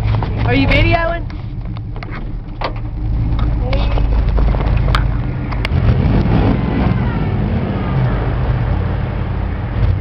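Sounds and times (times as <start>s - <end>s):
truck engine running at low revs: 0.0s - 10.0s.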